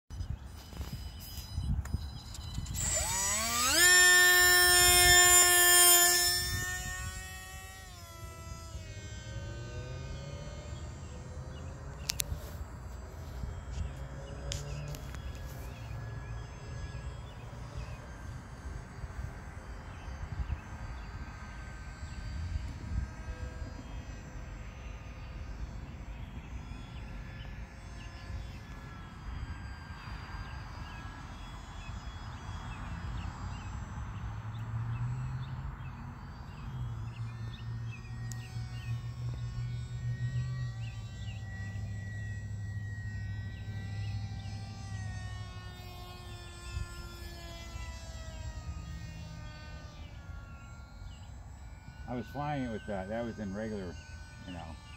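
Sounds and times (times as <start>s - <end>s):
model airplane propeller buzzing: 0.1s - 54.9s
low steady drone: 0.2s - 54.9s.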